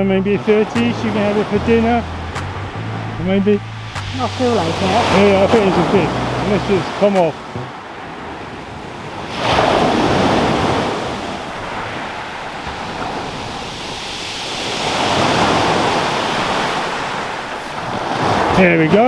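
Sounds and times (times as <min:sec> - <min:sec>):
waves breaking on shingle beach: 0:03.5 - 0:19.0.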